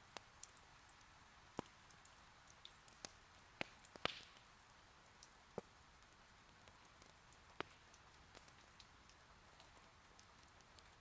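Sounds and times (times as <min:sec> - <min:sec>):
wood fire crackling: 0:00.0 - 0:11.0
fire popping: 0:00.1 - 0:11.0.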